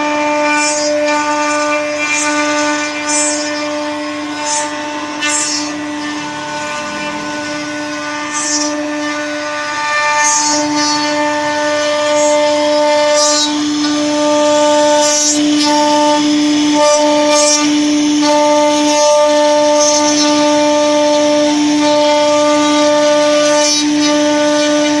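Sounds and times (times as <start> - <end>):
hissing from wood cutting: 0.0 - 25.0
router spindle whining: 0.0 - 25.0.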